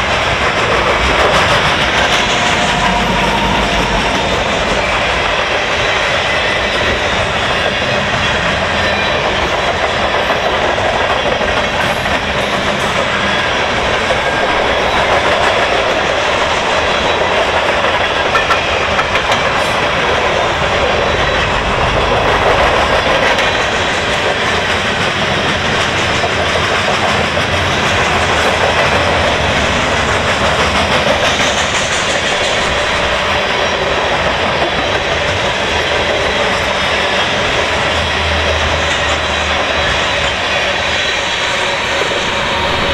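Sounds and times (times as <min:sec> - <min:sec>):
steel wheels rolling on rail: 0:00.0 - 0:42.9
wheels clattering over rail joints: 0:00.0 - 0:42.9.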